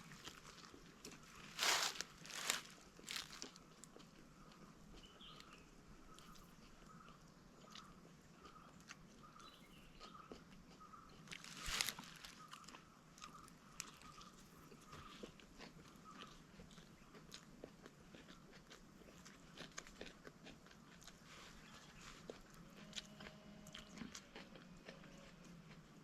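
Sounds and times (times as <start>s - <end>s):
person crunching and chewing: 0.0s - 26.0s.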